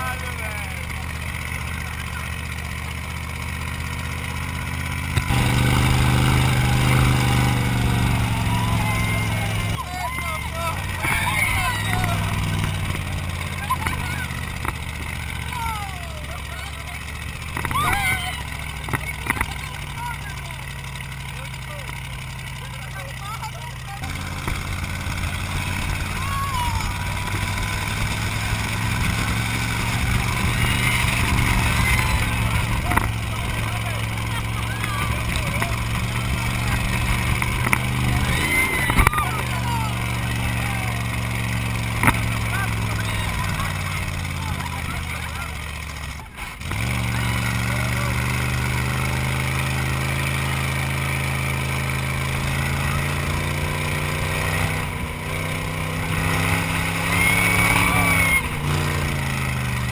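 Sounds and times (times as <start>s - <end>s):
buggy engine running: 0.0s - 59.9s.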